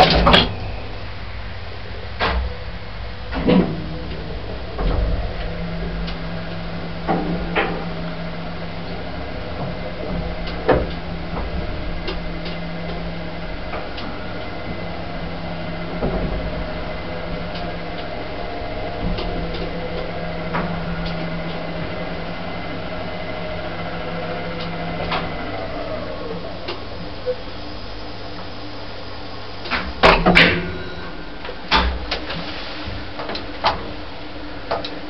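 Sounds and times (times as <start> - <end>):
lift machine hum: 0.0 - 35.0.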